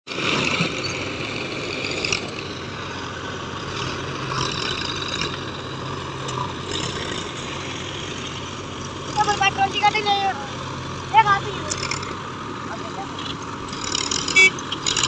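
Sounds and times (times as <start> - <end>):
diesel engines droning: 0.1 - 15.0.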